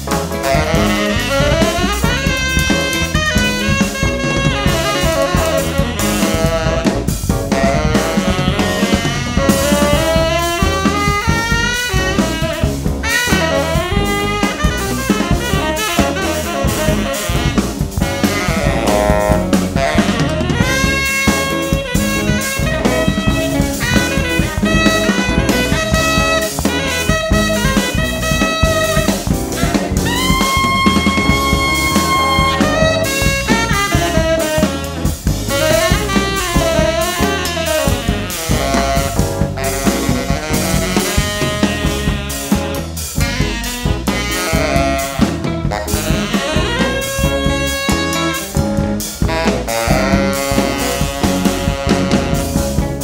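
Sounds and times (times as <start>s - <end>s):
deep bass line: 0.0s - 53.0s
drum kit: 0.0s - 53.0s
funk band playing: 0.0s - 53.0s
tenor saxophone with bending notes: 0.0s - 53.0s.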